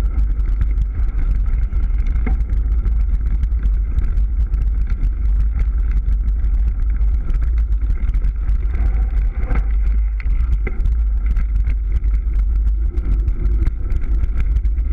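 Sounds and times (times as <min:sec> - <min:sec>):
bike rattling: 0:00.0 - 0:14.9
bike tyres on dirt and gravel: 0:00.0 - 0:14.9
wind rumble on microphone: 0:00.0 - 0:14.9.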